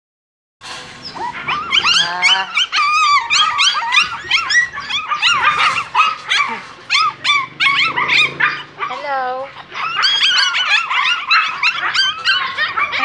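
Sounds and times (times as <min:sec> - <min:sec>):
puppies yelping and whining: 0:00.6 - 0:13.0.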